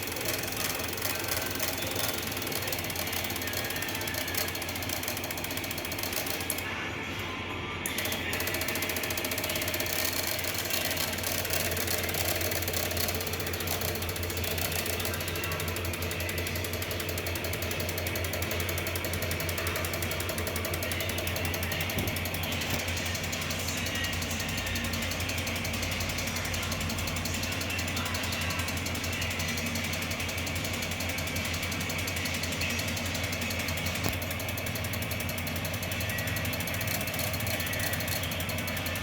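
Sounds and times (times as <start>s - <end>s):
rapid mechanical ticking: 0.0s - 7.2s, 7.8s - 39.0s.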